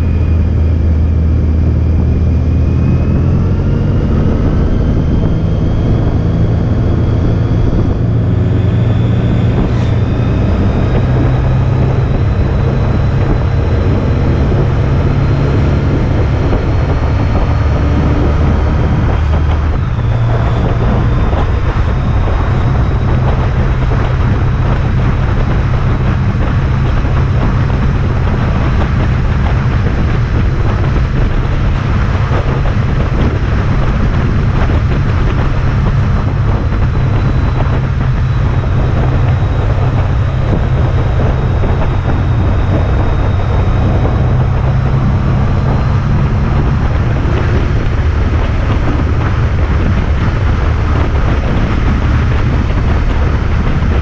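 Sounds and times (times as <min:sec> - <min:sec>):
motorcycle engine accelerating: 0:00.0 - 0:54.0
wind rush on microphone: 0:00.0 - 0:54.0.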